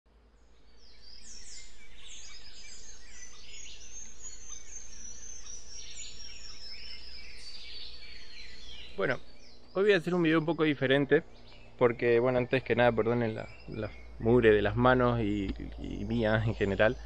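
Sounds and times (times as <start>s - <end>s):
many birds singing: 0.2s - 17.0s.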